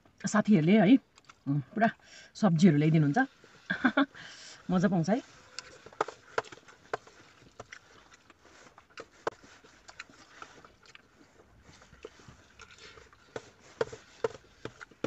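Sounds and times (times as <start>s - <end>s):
chewing: 1.1s - 1.5s, 3.3s - 15.0s.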